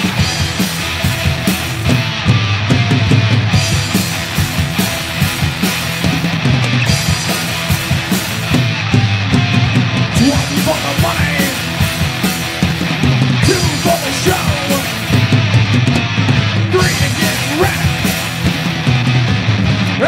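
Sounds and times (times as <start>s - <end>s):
bass guitar: 0.0s - 20.0s
distorted electric guitars: 0.0s - 20.0s
drum kit with cymbals: 0.0s - 20.0s.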